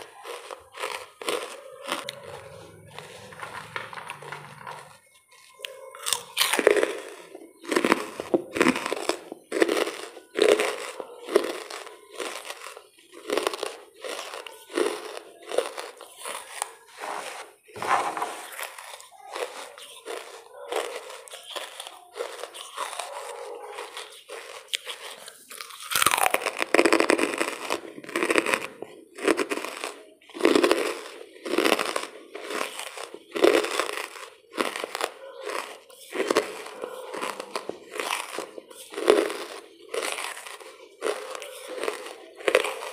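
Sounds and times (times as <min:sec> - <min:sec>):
charcoal being chewed crunching: 0:00.0 - 0:42.9.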